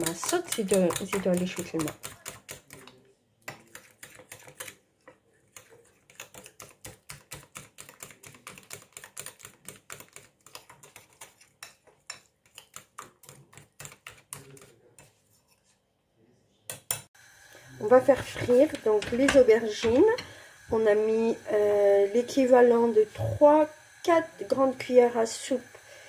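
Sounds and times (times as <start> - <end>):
utensil beating batter in glass bowl: 0.0 - 15.8, 17.8 - 25.6.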